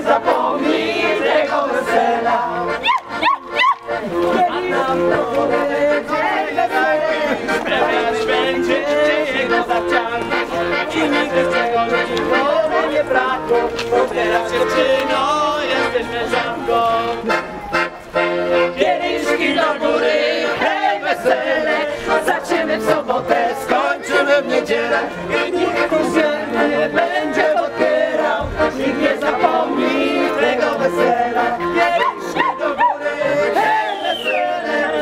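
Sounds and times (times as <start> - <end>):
group of people singing: 0.0 - 2.8, 4.2 - 17.4, 18.6 - 35.0
accordion playing folk tune: 0.0 - 35.0.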